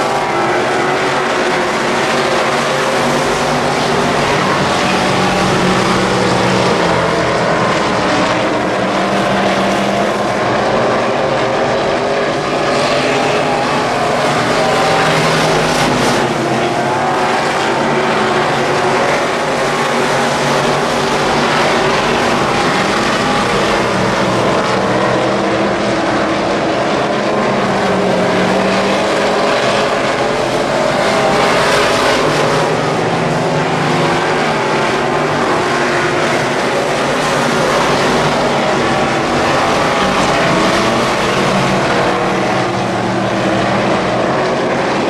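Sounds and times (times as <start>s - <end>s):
race car engines at speed: 0.0s - 45.0s.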